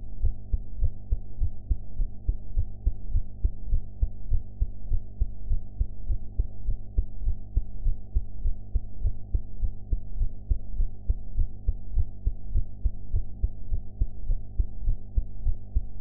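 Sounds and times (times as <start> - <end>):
steady low hum: 0.0 - 16.0
heart beating: 0.2 - 16.0.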